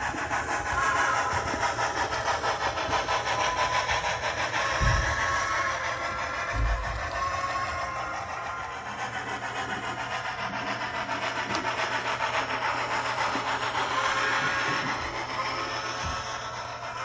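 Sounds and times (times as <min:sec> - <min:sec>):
model train wheels on rail: 0:00.0 - 0:17.0.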